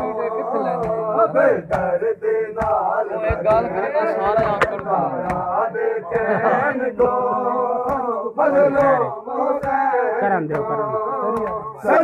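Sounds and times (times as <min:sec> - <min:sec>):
men chanting a lament: 0:00.0 - 0:12.0
hands slapping on chests: 0:01.6 - 0:11.7.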